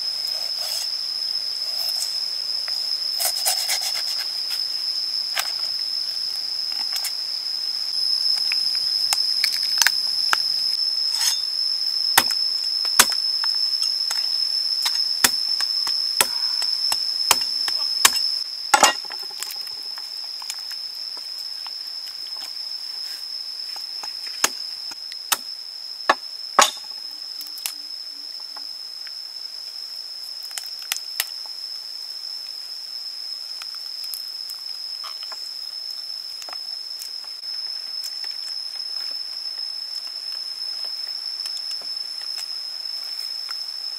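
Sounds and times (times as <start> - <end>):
high insect drone: 0.0 - 43.9.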